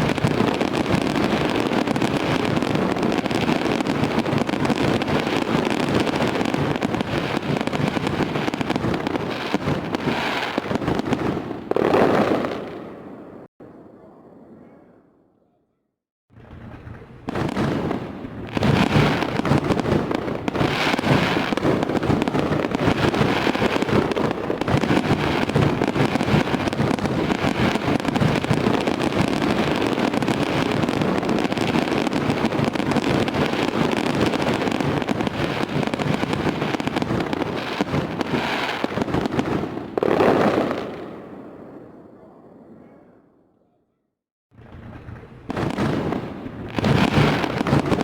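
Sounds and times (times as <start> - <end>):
heavy firework blasts: 0.0 - 13.5, 16.3 - 41.9, 44.5 - 48.0
fireworks bangs and crackling: 0.0 - 13.8, 16.3 - 42.7, 44.5 - 48.0.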